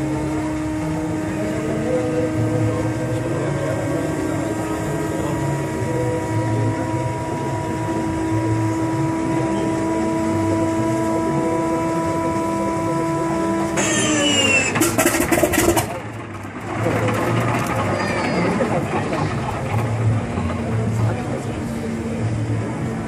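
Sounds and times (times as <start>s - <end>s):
engine cranking: 0.0s - 22.9s
electric starter whining: 0.0s - 23.0s
low pulsing hum: 0.0s - 23.0s.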